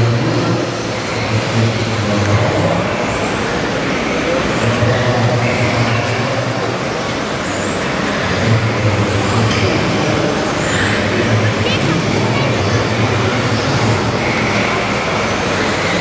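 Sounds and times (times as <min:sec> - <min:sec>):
model truck engine drone: 0:00.0 - 0:16.0
steady background din: 0:00.0 - 0:16.0.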